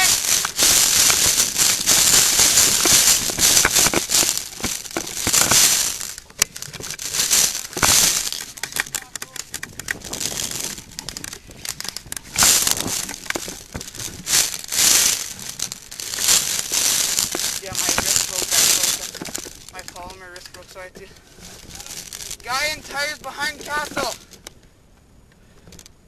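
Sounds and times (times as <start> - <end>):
clothing rubbing on microphone: 0.0 - 24.2
crunching footsteps: 0.0 - 24.4
rattling gear: 0.0 - 24.5.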